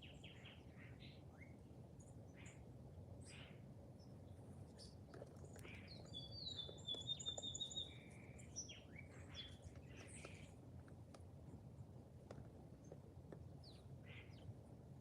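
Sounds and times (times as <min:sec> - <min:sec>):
wild birds chirping: 0:00.0 - 0:10.6, 0:12.8 - 0:14.6
low background noise: 0:00.0 - 0:15.0.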